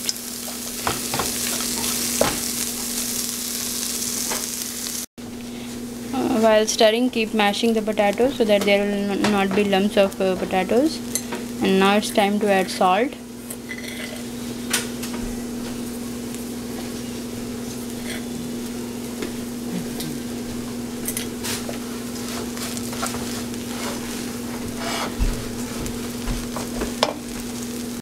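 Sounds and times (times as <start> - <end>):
oil sizzling: 0.0 - 28.0
steady hum: 0.0 - 28.0.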